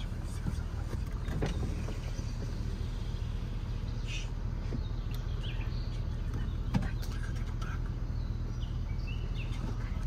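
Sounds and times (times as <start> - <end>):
birds chirping: 0.0 - 10.0
car engine and tyres rumbling: 0.0 - 10.0.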